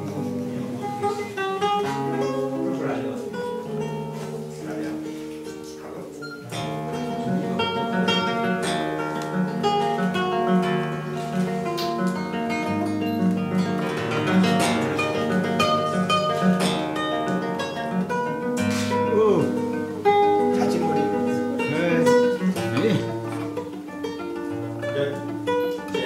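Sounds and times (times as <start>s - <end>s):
fingerpicked classical guitar: 0.0s - 26.0s.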